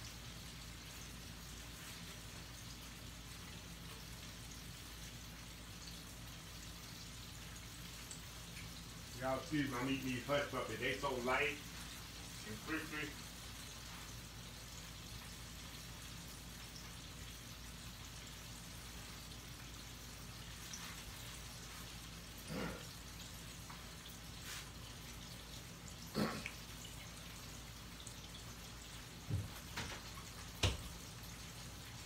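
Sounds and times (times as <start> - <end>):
hot oil sizzling: 0.0 - 32.0.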